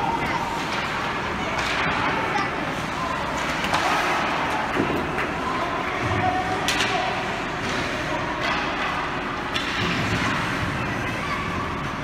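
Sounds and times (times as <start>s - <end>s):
ice rink background noise: 0.0s - 12.0s.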